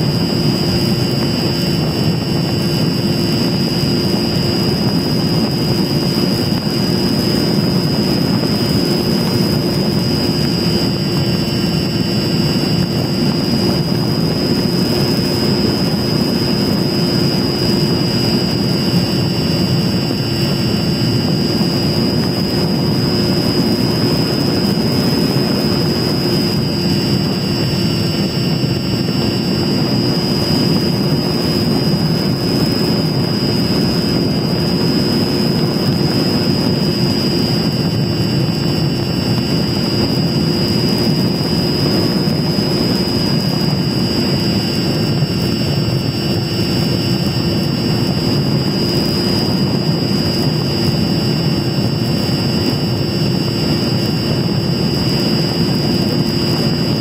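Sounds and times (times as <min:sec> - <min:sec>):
electric motor and propeller whine: 0:00.0 - 0:57.0
wind rush: 0:00.0 - 0:57.0.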